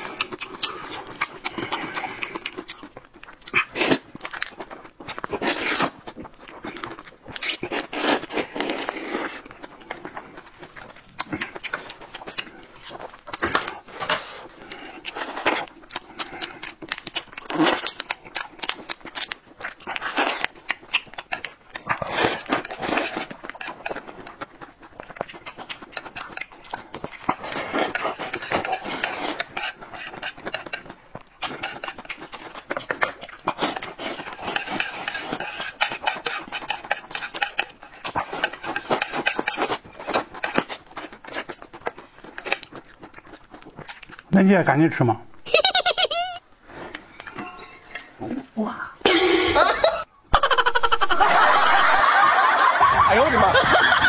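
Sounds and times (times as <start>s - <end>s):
noodles slurping: 0.0s - 44.3s.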